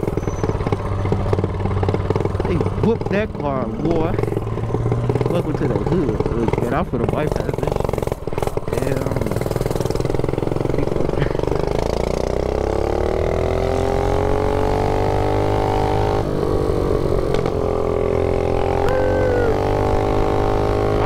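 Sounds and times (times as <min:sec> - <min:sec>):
mini bike engine revving: 0:00.0 - 0:21.0.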